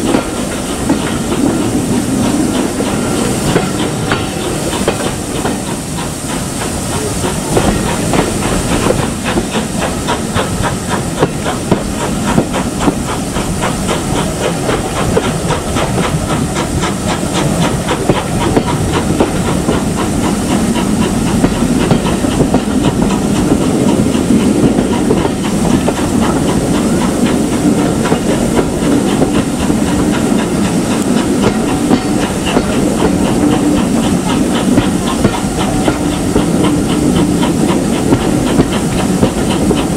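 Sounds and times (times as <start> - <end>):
steam hissing: 0.0 - 39.9
train rhythmic clatter: 0.0 - 39.9.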